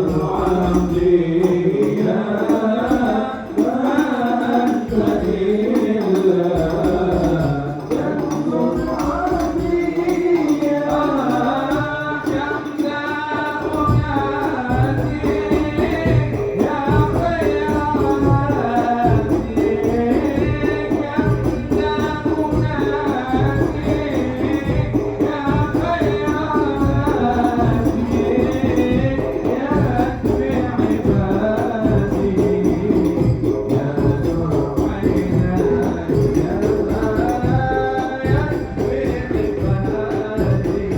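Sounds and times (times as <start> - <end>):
frame drums beating: 0.0 - 40.9
man singing devotional song: 0.0 - 40.9.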